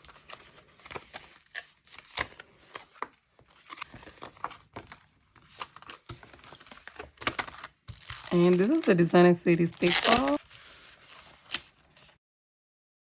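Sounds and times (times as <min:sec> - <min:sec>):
plastic packaging crinkling: 0:00.0 - 0:12.1.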